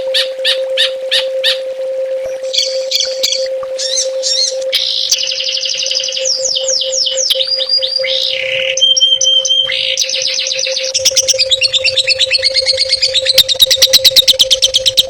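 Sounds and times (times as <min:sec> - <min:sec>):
songbird chirps and trills: 0:00.0 - 0:15.0
steady low hum: 0:00.0 - 0:15.0.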